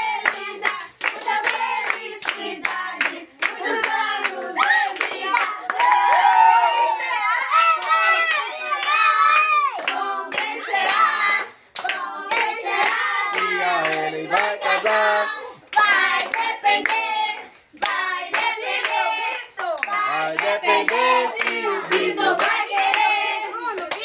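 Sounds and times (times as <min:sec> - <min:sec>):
group singing: 0:00.0 - 0:24.0
people clapping in rhythm: 0:00.0 - 0:24.0.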